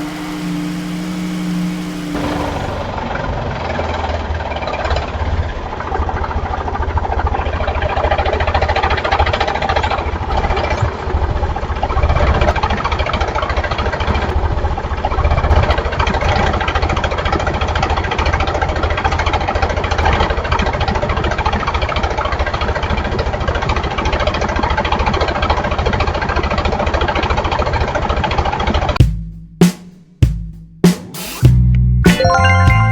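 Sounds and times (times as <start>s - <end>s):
diesel tractor engine running: 0.0s - 27.5s.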